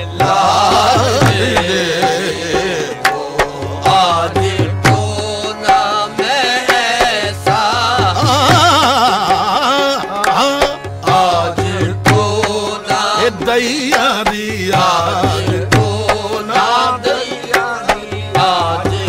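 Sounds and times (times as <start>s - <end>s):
ornamented vocal melody: 0.0s - 19.0s
tabla percussion: 0.0s - 19.0s.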